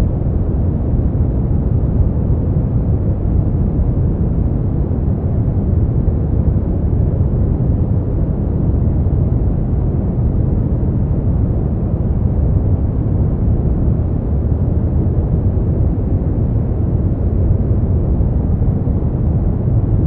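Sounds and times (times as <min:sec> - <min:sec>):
deep rumbling brown noise: 0:00.0 - 0:20.0.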